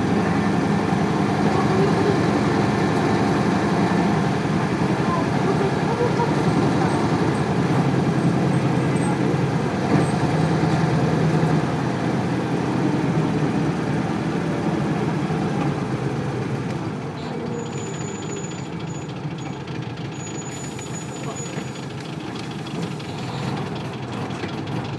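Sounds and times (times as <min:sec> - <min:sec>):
bus diesel engine rumble: 0:00.0 - 0:24.9.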